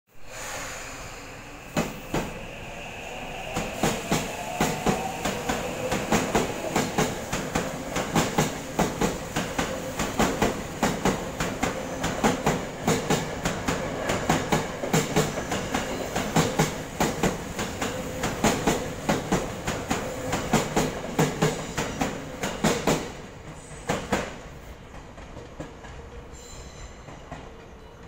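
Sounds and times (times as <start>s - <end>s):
train wheels clacking on rail joints: 3.8s - 28.0s.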